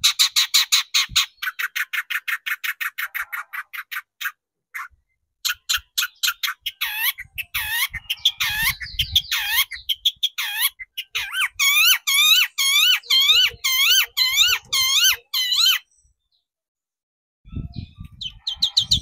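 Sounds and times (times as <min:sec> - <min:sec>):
bird calling in harsh notes: 0:00.0 - 0:16.0.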